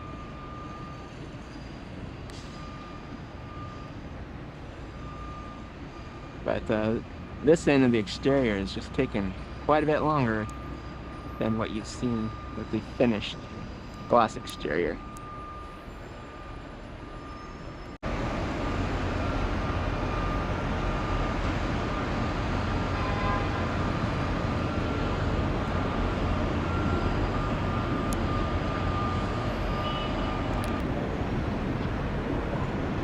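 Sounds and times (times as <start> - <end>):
traffic rumble and road noise: 0.0 - 33.0.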